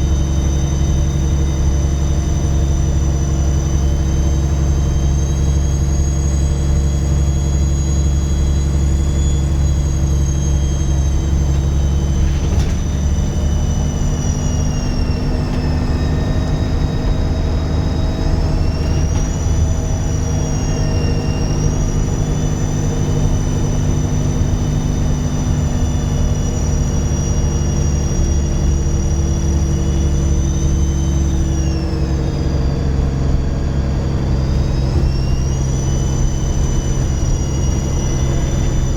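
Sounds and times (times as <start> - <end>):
bus diesel engine running: 0.0 - 38.9
loud high turbo whistle: 0.0 - 38.9.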